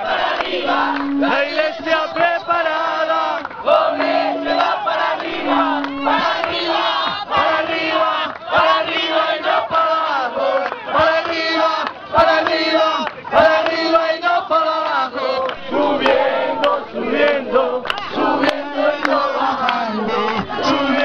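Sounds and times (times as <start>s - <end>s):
group of voices chanting: 0.0s - 21.0s.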